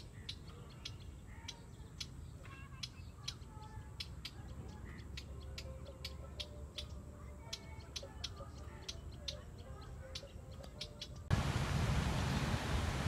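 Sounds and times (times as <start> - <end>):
thin wavering whistled bird notes: 0.0 - 11.3.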